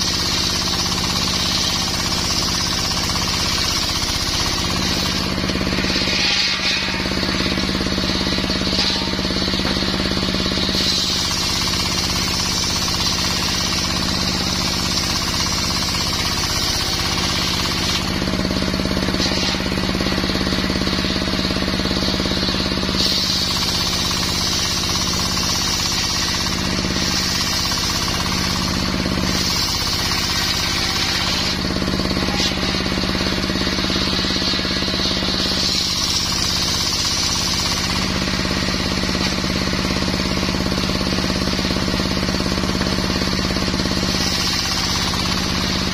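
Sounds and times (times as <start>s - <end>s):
saw blade cutting wood: 0.0s - 45.9s.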